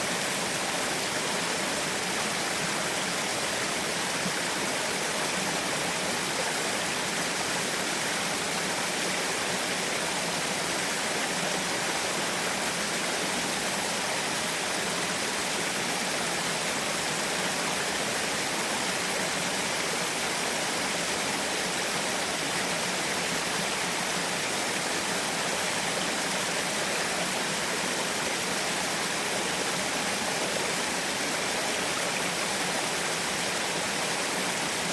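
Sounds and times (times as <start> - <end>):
small waterfall splashing: 0.0 - 34.9.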